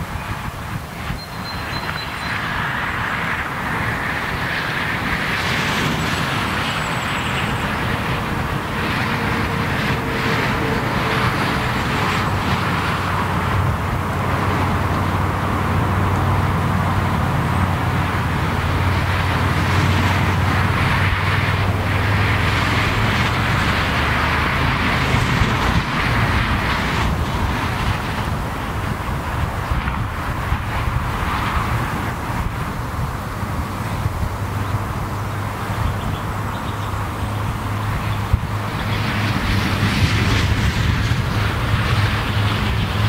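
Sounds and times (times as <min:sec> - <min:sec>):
low engine drone: 0:00.0 - 0:43.0.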